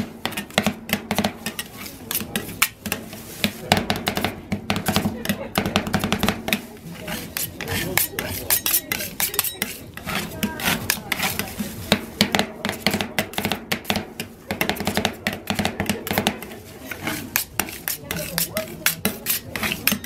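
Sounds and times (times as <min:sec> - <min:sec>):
metal spatulas chopping and scraping: 0:00.0 - 0:20.0.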